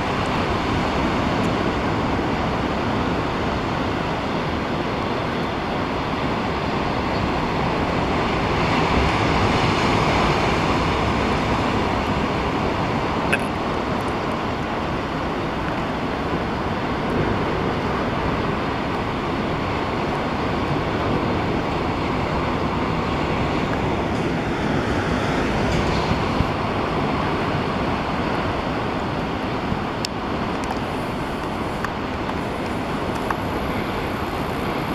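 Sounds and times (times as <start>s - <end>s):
rushing outdoor noise: 0.0s - 34.9s.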